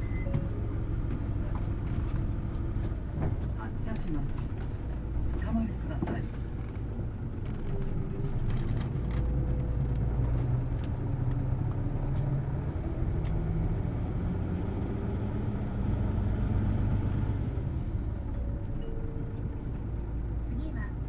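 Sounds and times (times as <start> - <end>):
bus engine and drivetrain hum: 0.0 - 21.0.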